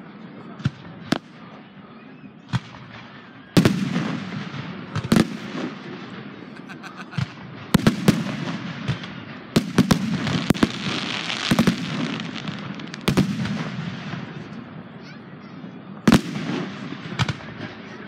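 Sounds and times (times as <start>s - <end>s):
hissing crackle of fireworks: 2.5s - 18.0s.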